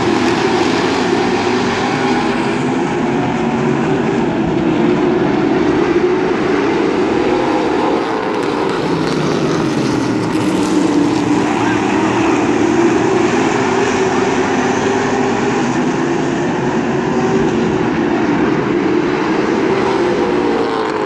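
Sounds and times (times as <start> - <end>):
stock car engines racing: 0.0 - 21.0.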